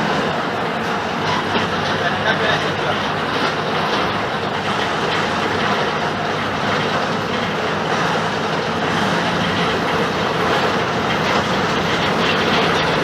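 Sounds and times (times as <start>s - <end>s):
diesel bus engine drone: 0.0s - 13.0s
rolling road noise: 0.0s - 13.0s.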